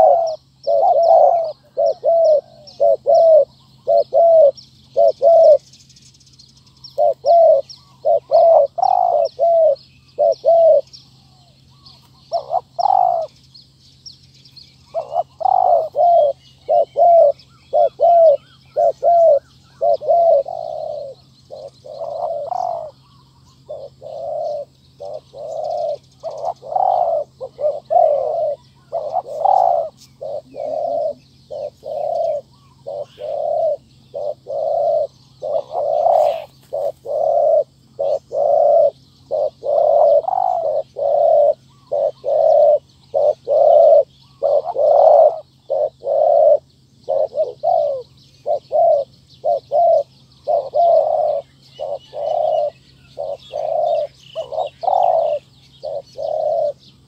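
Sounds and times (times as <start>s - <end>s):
dove cooing: 0.0s - 13.5s, 14.8s - 57.0s
small birds twittering: 0.0s - 57.0s.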